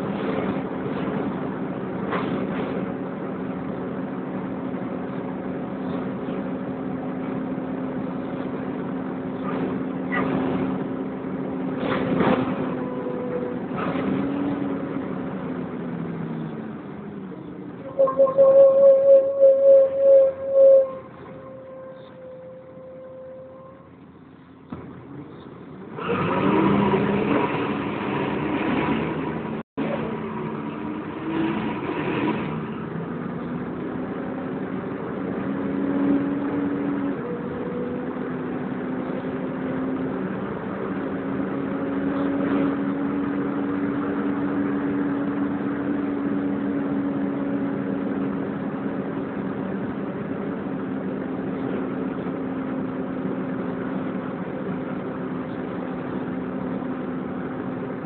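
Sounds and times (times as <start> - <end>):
bus engine and drivetrain: 0.0 - 58.0.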